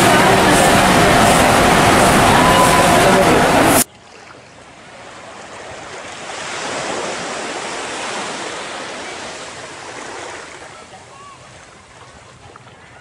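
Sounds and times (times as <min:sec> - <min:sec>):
ocean surf washing onto beach: 0:00.0 - 0:03.9, 0:05.5 - 0:12.2.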